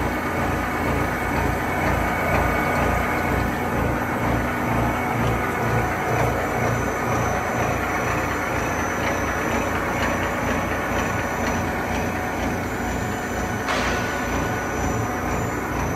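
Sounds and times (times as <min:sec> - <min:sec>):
high machine whine: 0:00.0 - 0:15.9
machine running: 0:00.0 - 0:15.9.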